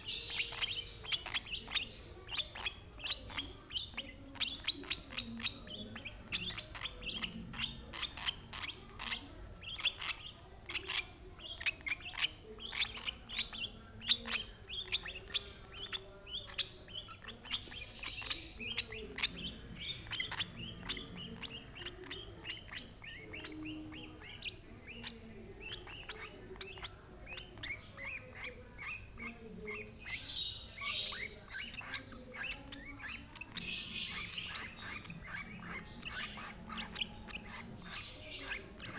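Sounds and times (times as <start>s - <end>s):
bird raspy calls: 0.0s - 38.9s.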